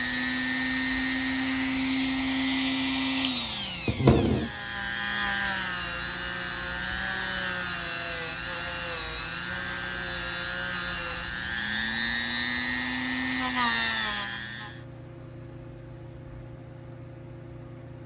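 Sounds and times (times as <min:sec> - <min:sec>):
power tool motor running: 0:00.0 - 0:14.8.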